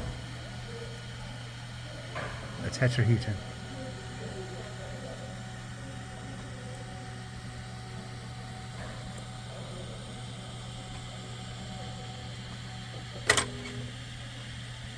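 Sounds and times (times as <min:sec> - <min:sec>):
low machine hum: 0:00.0 - 0:14.9.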